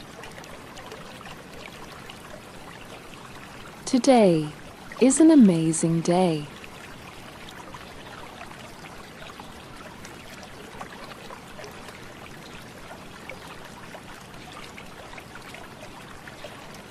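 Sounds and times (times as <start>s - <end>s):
small stream trickling: 0.0s - 5.7s, 6.4s - 16.9s.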